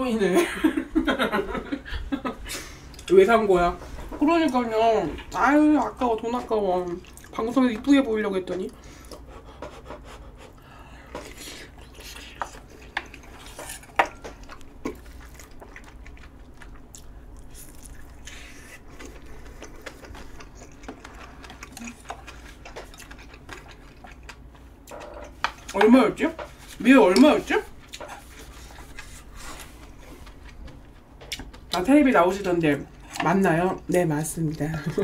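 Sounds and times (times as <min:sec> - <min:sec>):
low steady hum: 0:00.0 - 0:35.0
chewing food: 0:04.2 - 0:35.0.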